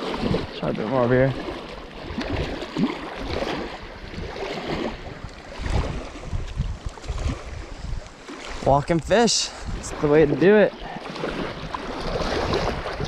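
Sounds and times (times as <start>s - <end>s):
small waves lapping on rocks: 0.0s - 13.0s
wind rumbling on microphone: 0.0s - 13.0s.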